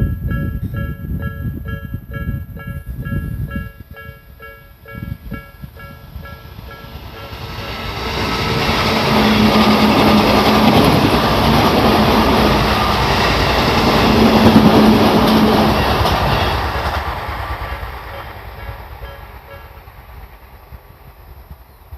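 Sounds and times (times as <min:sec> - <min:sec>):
level crossing warning bell: 0:00.0 - 0:07.9, 0:09.5 - 0:19.8
electric train passing: 0:00.0 - 0:21.9.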